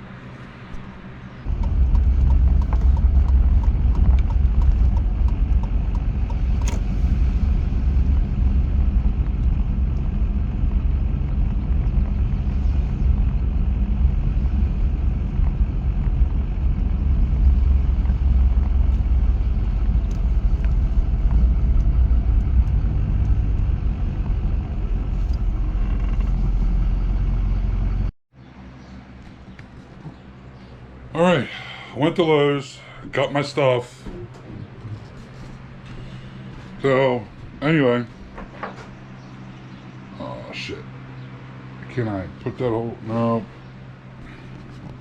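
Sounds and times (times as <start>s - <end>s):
car engine and road noise: 0.0s - 31.5s, 33.4s - 45.0s.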